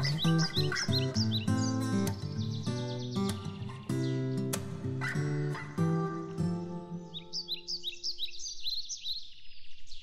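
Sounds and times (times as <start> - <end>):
songbird chirping: 0.0 - 10.0.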